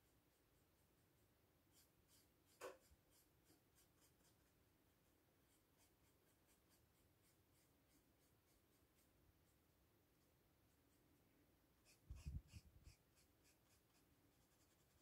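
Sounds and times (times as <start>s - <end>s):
brush stroking paper: 0.0s - 11.2s, 11.8s - 15.0s.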